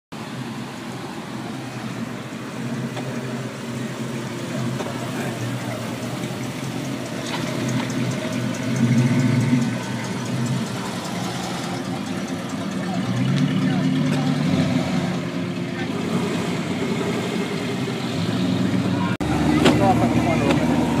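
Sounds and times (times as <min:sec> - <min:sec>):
car engines pulling away: 0:00.1 - 0:21.0
car engine passing close: 0:00.2 - 0:21.0.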